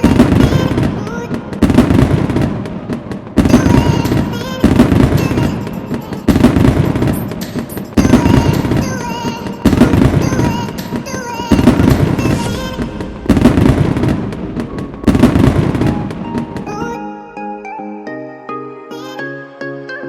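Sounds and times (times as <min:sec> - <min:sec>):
firecrackers crackling: 0:00.0 - 0:17.0
music: 0:00.0 - 0:20.0.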